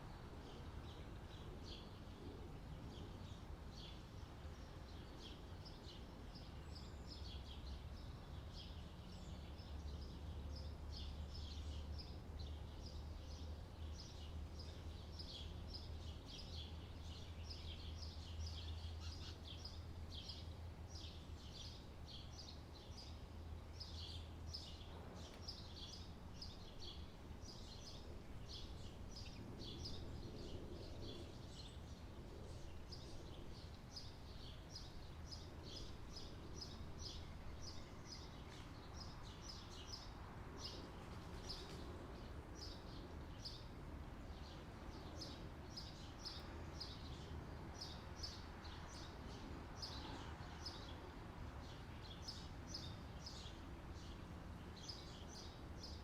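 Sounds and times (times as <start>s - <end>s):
small birds chirping: 0.2s - 56.0s.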